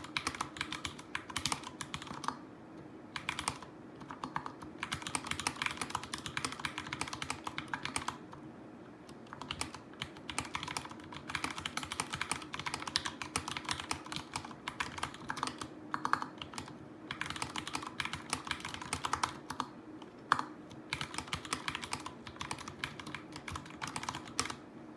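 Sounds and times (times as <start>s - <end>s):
fast mechanical keyboard typing: 0.0s - 2.4s, 3.1s - 8.4s, 9.0s - 24.6s.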